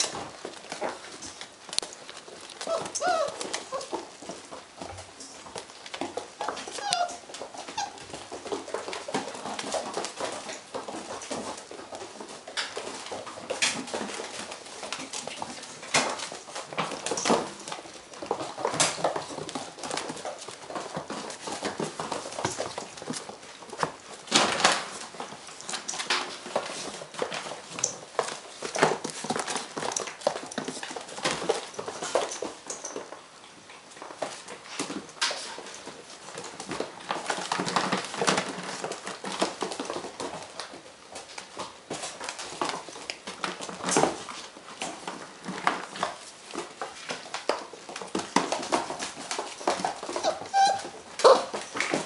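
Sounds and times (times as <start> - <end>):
puppies scuffling: 0.0 - 52.0
puppy claws clicking on hard floor: 0.0 - 52.0.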